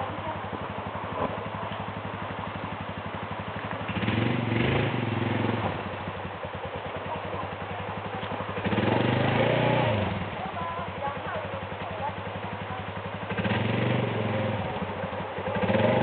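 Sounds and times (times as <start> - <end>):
quad bike engine idling and revving: 0.0 - 16.0.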